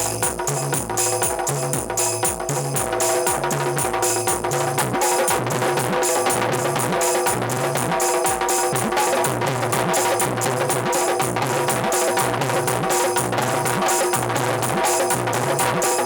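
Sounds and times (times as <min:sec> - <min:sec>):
quick steady drumming: 0:00.0 - 0:16.0.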